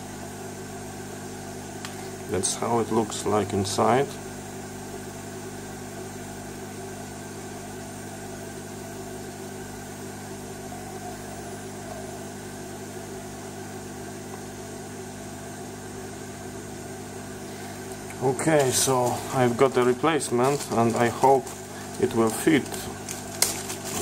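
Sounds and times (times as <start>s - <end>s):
steady hum with even tones: 0.0s - 24.0s.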